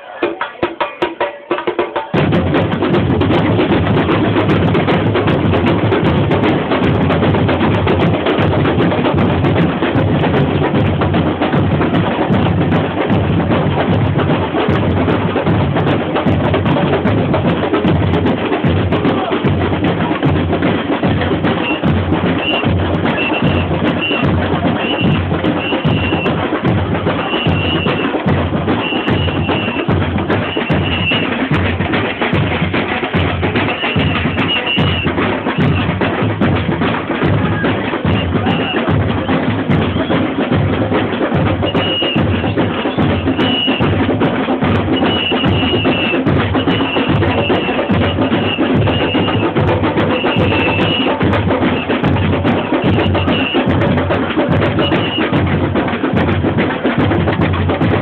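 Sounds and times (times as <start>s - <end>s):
samba percussion band: 0.0s - 58.0s.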